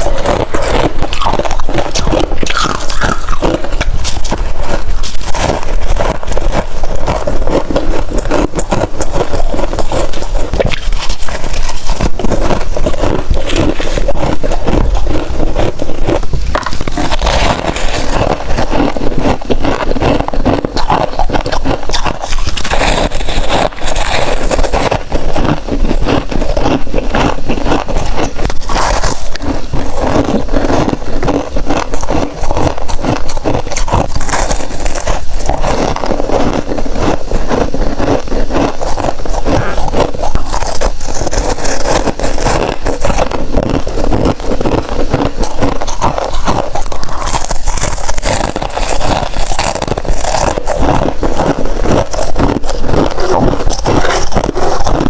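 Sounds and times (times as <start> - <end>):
chewing crunchy ice: 0.0 - 55.0.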